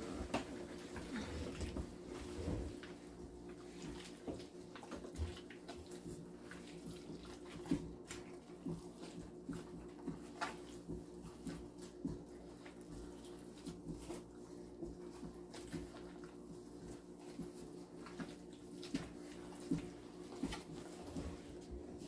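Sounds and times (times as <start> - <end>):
hands squeezing sticky dough: 0.0 - 22.0.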